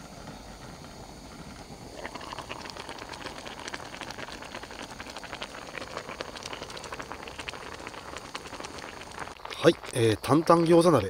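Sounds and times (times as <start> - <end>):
gas burner hiss: 0.0 - 11.0
broth bubbling and popping: 1.6 - 11.0.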